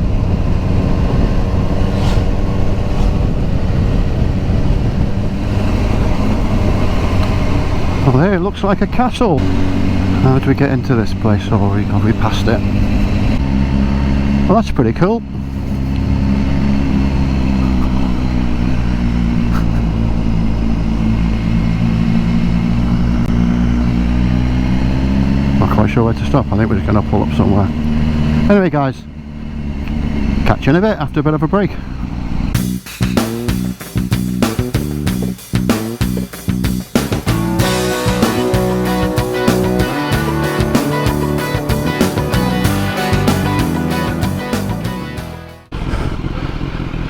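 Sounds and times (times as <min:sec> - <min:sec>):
motorcycle engine running: 0:00.0 - 0:30.9, 0:31.8 - 0:47.0.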